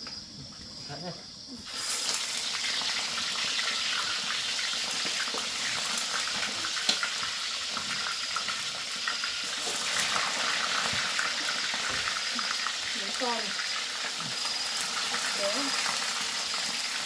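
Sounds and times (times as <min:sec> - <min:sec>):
fish frying in hot oil: 0:01.6 - 0:17.0.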